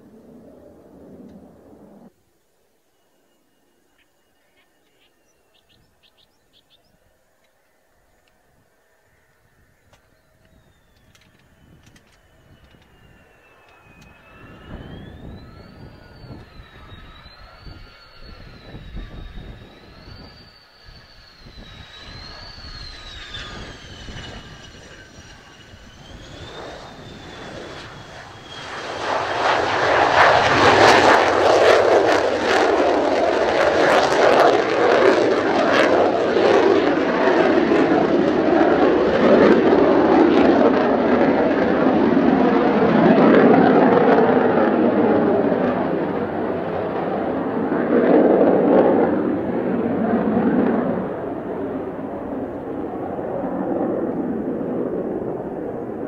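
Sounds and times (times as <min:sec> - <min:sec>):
loud crackling jet roar: 0:00.0 - 0:02.2, 0:10.0 - 0:56.0
jet engine whine: 0:00.0 - 0:56.0.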